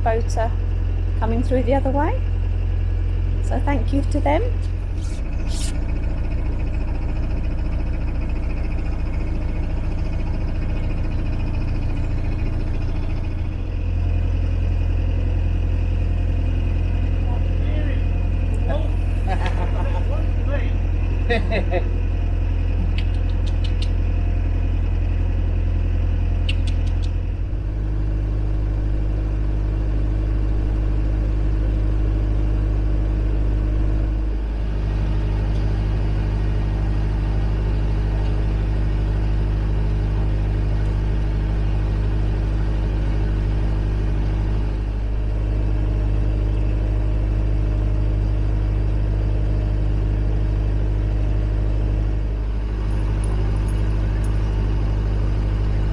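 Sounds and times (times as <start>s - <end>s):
boat diesel engine running: 0.0s - 55.9s.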